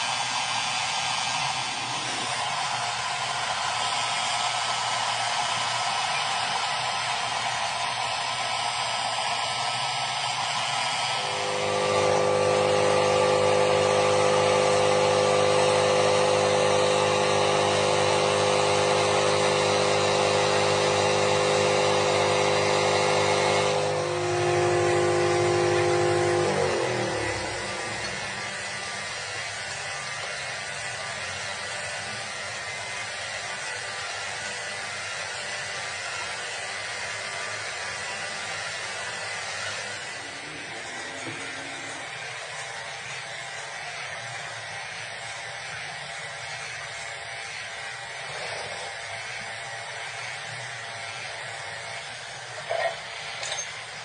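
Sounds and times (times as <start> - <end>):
motor whine: 0.0 - 54.0
angle grinder grinding metal: 7.3 - 54.0.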